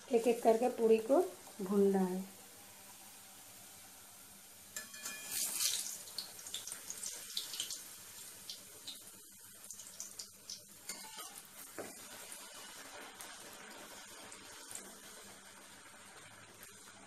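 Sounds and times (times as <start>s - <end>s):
bread deep-frying in hot oil: 0.0s - 17.0s.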